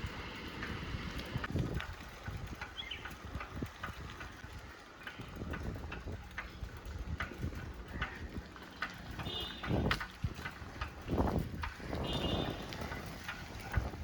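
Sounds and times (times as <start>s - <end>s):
bicycle clicks and rattles: 0.0s - 14.0s
wind rumble on microphone: 0.0s - 14.0s.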